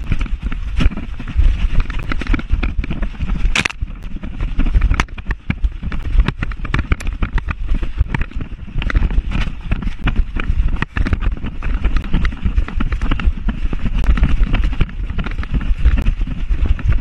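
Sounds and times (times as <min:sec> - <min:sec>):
heavy low rumble: 0:00.0 - 0:17.0.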